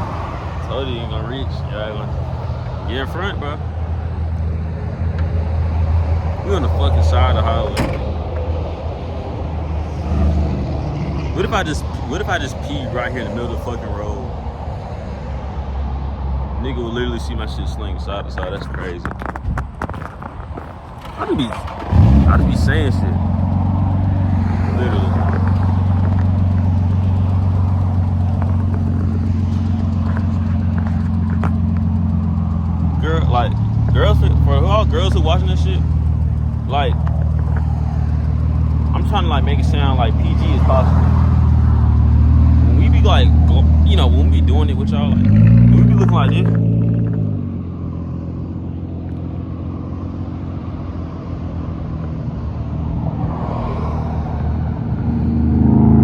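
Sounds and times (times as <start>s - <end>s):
car engine idling: 0.0s - 56.0s
road noise of passing traffic: 0.0s - 56.0s.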